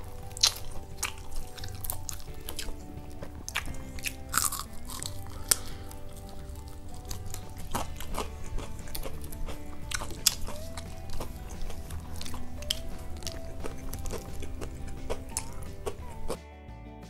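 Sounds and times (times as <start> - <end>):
person chewing crunchy food: 0.0 - 16.4
background music: 0.0 - 17.0.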